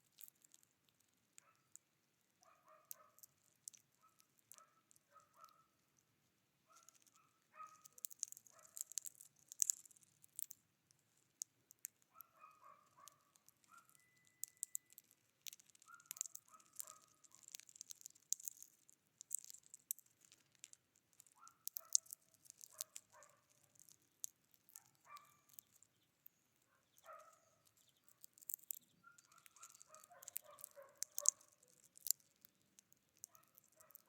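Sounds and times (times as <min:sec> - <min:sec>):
high bird ticks and chips: 0:00.0 - 0:34.0.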